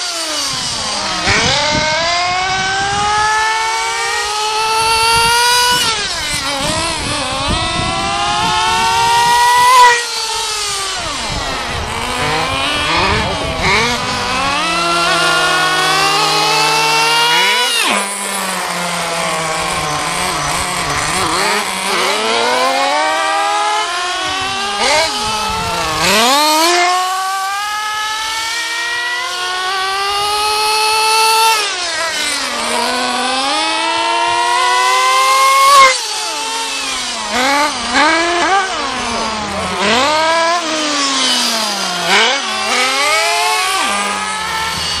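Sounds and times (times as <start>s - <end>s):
rc car nitro engines revving: 0.0s - 45.0s.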